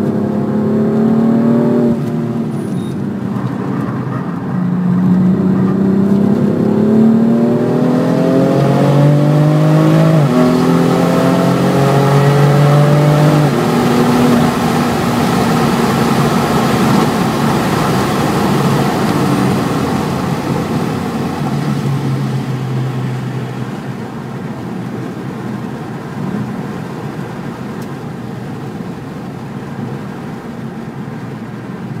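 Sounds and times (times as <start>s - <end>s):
car engine accelerating through gears: 0.0s - 28.0s
steady rushing noise: 1.9s - 32.0s.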